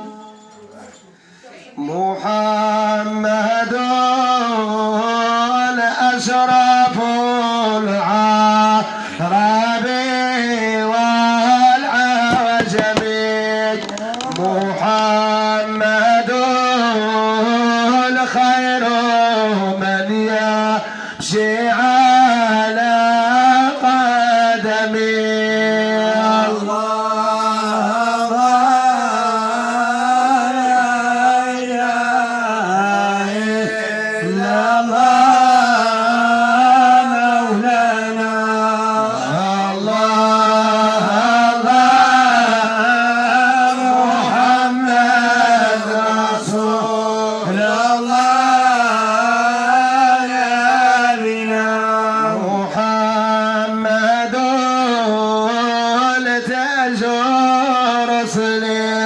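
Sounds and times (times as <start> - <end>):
man singing melismatic phrases: 2.1 - 59.0.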